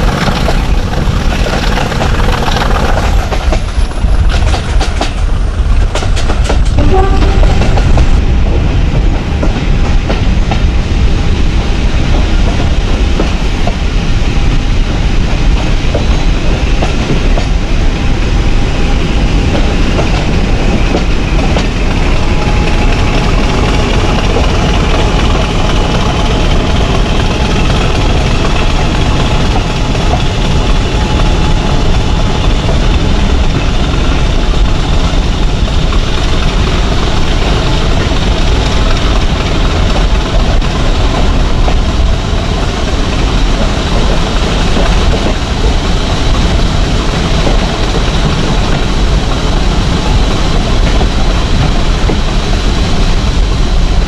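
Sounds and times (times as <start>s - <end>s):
diesel locomotive engine working hard: 0.0s - 54.0s.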